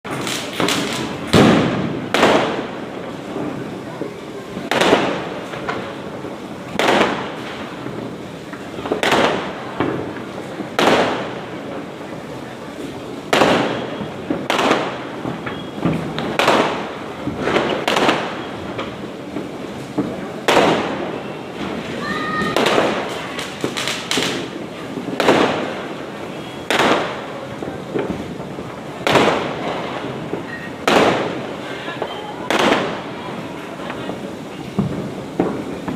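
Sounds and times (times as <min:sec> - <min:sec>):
faint firecracker pops: 0:00.1 - 0:02.8, 0:03.4 - 0:06.0, 0:06.7 - 0:11.4, 0:13.3 - 0:33.1, 0:33.8 - 0:35.9
firecracker bangs: 0:00.1 - 0:35.9.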